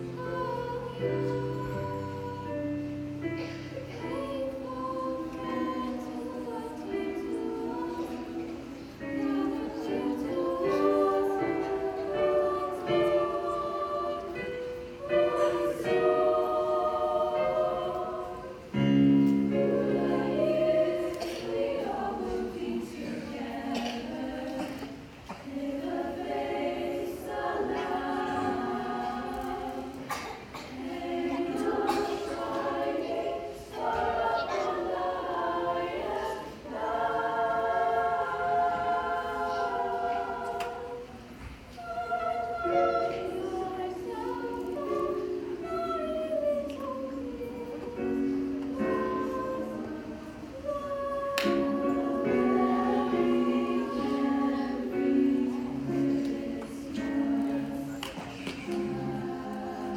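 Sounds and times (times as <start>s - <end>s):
girls' choir singing in harmony: 0.0s - 59.9s.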